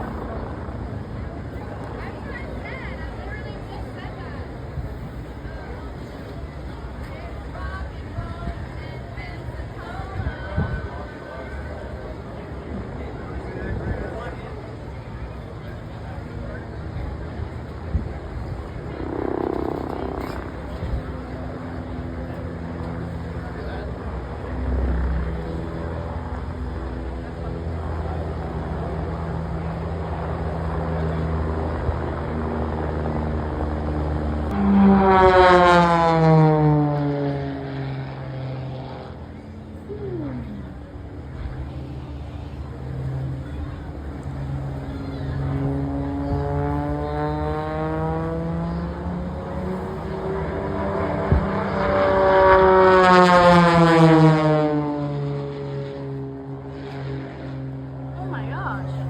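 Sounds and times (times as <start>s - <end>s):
aircraft flying past: 0.0s - 10.0s, 10.6s - 59.0s
aircraft engine droning: 0.0s - 59.0s.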